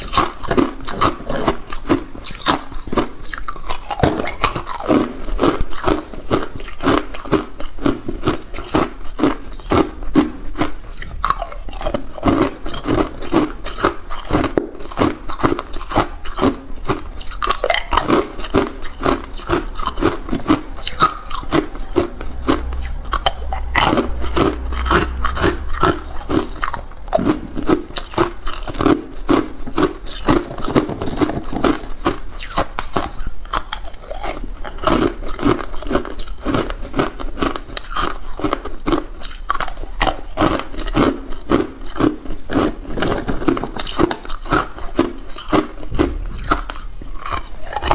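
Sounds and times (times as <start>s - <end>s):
ice crunching being chewed: 0.0s - 47.9s.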